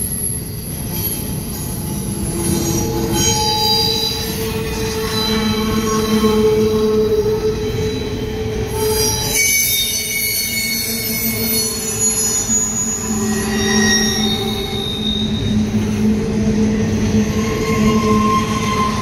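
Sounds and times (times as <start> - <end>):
train cars rolling and rumbling: 0.0 - 19.0
wheel squeal: 2.2 - 19.0
high-pitched squealing tones: 2.4 - 16.0, 17.0 - 19.0.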